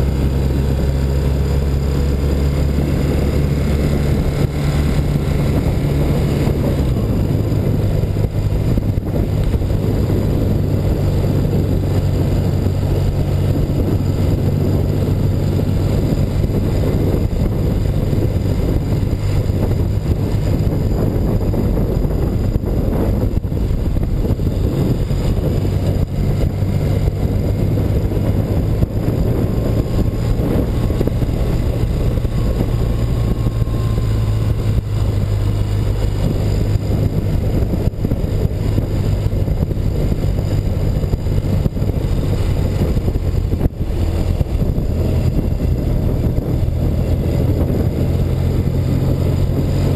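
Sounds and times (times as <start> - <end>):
motorcycle engine running: 0.0 - 49.9
wind rushing over microphone: 0.0 - 49.9.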